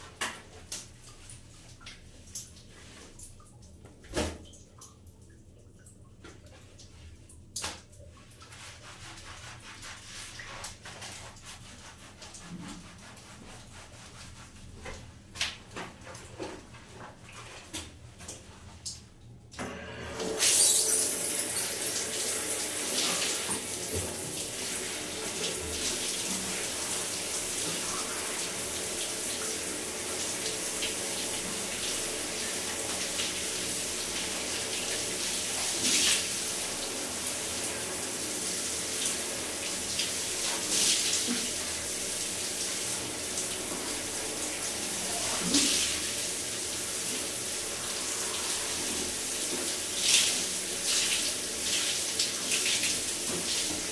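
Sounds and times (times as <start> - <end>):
water running through drain pipe: 0.0 - 53.9.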